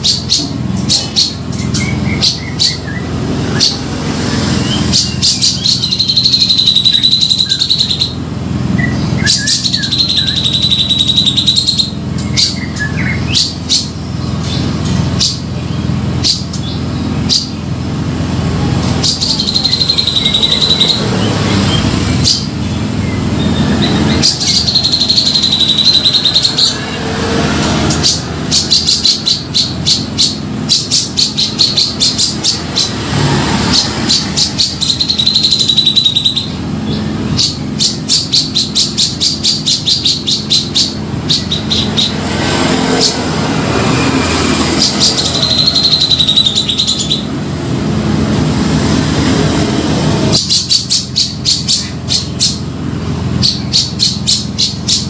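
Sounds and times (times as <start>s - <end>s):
bird singing: 0.0s - 47.7s, 50.2s - 55.0s.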